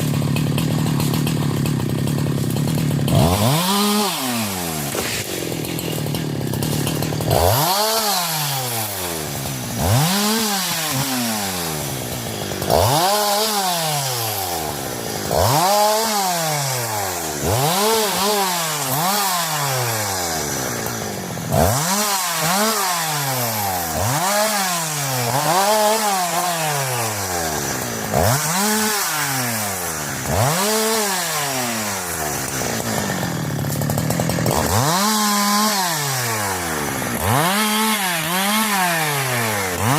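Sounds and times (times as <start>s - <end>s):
chainsaw revving while cutting wood: 0.0s - 39.9s.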